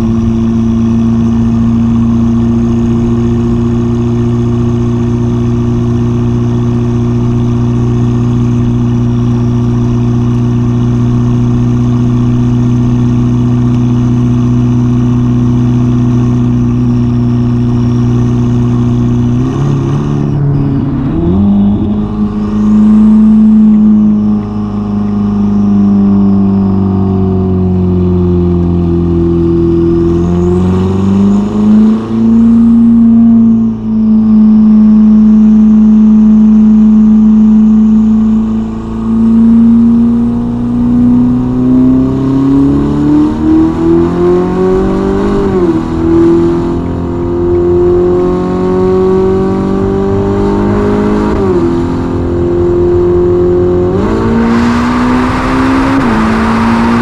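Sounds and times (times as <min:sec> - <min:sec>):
sports car engine drone: 0:00.0 - 0:57.0.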